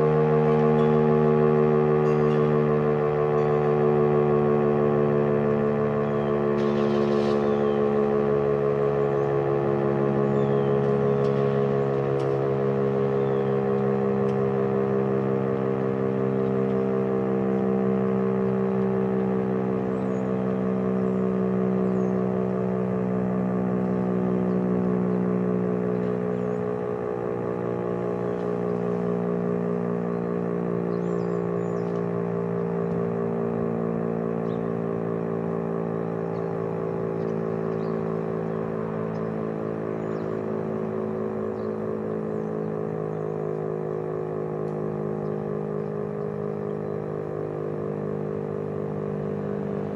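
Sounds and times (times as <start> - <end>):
rotating fire siren: 0.0 - 49.9.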